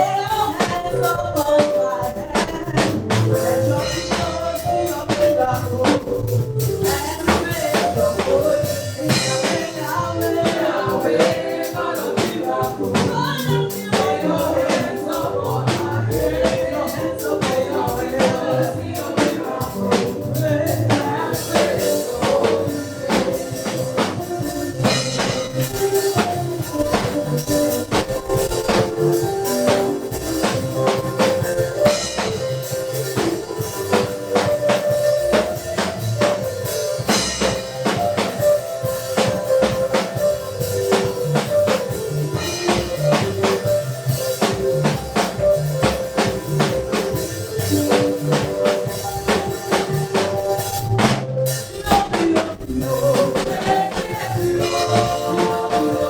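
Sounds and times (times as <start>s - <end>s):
live church band music: 0.0s - 56.0s
upbeat drum kit beat: 0.0s - 56.0s.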